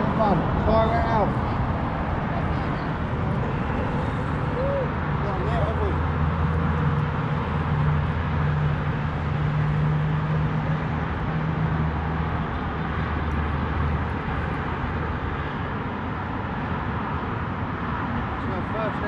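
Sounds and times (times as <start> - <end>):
road noise: 0.0 - 19.0
traffic engine hum: 0.0 - 19.0.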